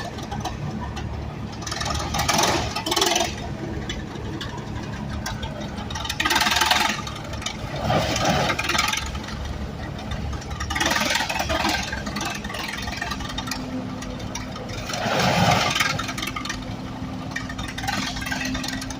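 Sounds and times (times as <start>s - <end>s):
engine running with rough surges: 0.0s - 18.9s.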